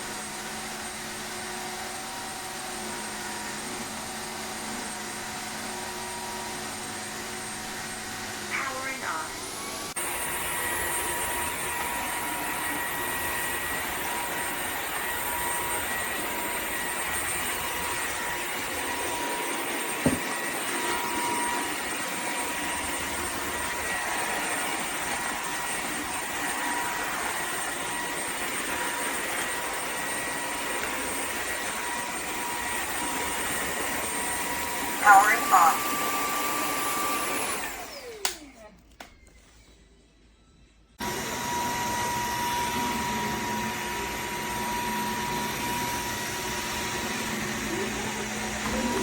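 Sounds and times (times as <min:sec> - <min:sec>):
vacuum mop motor whine: 0:00.0 - 0:38.7, 0:41.0 - 0:49.0.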